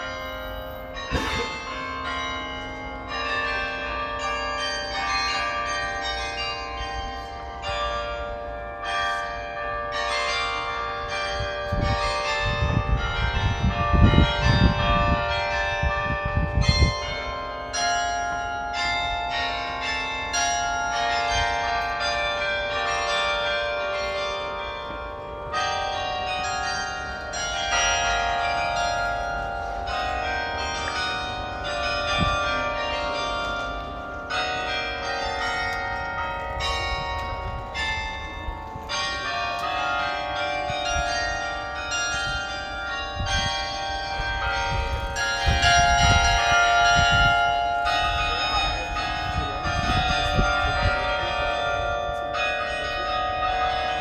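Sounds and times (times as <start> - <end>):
carillon bells playing melody: 0.0 - 54.0.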